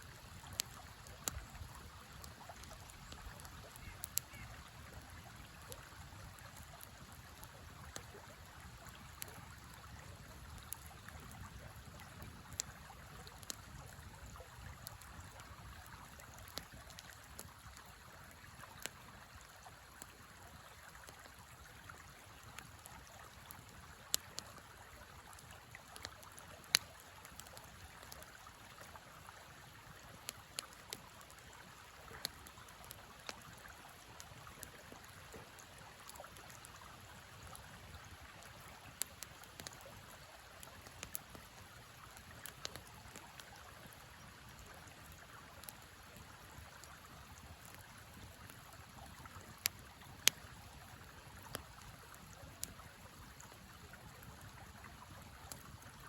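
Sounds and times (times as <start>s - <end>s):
river flowing: 0.0s - 55.8s
wood fire crackling and popping: 0.1s - 19.2s, 19.9s - 55.8s.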